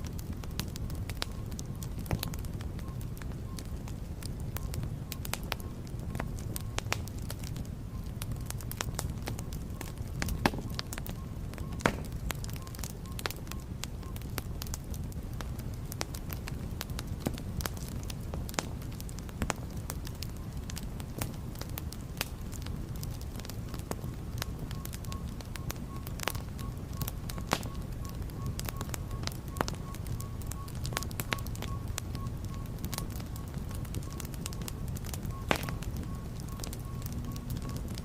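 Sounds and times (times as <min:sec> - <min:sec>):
fireplace fire crackling: 0:00.0 - 0:38.0.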